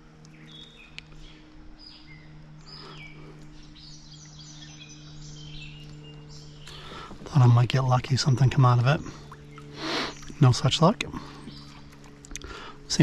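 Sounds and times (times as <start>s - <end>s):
songbirds chirping: 0.0s - 13.0s
steady low hum: 0.0s - 13.0s.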